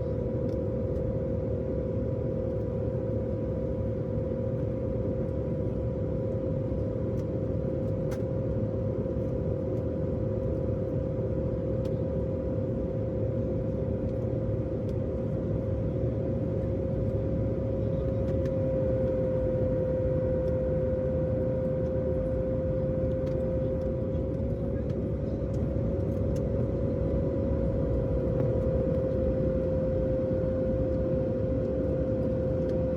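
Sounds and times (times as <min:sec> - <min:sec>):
constant hum: 0:00.0 - 0:32.9
jet airliner cabin rumble: 0:00.0 - 0:32.9.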